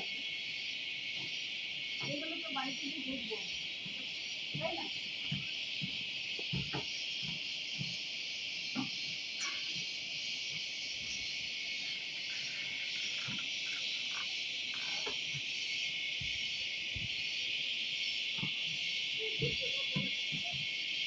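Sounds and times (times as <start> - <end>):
insect chorus buzzing: 0.0 - 21.0.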